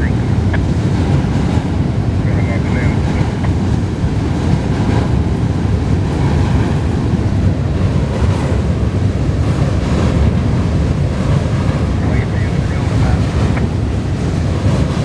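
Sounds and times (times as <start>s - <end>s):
freight train rumbling over bridge: 0.0s - 15.0s
wind on microphone: 0.0s - 15.0s.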